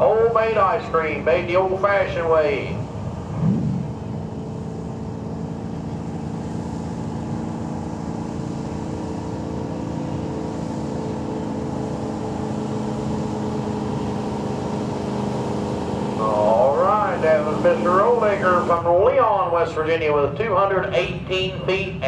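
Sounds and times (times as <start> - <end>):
truck engine running hard: 0.0 - 22.0.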